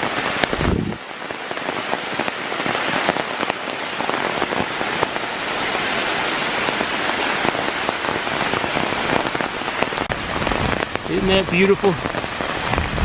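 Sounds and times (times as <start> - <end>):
heavy rain on leaves: 1.9 - 13.0.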